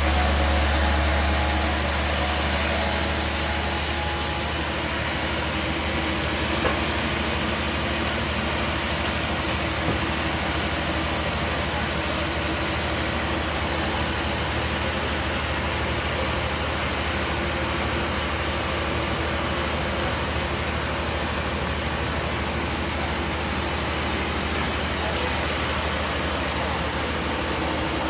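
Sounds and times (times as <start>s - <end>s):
bandsaw sawmill running: 0.0s - 28.0s.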